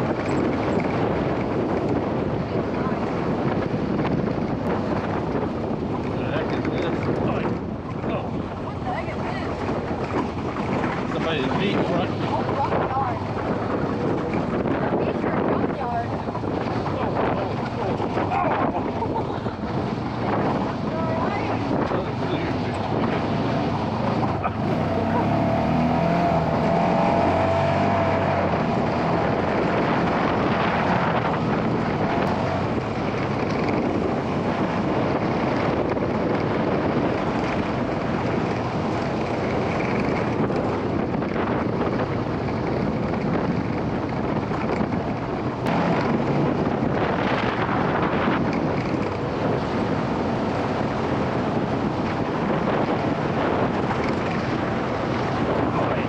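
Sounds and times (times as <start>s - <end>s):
utility vehicle engine and road din: 0.0s - 56.0s
wind noise on microphone: 0.0s - 56.0s.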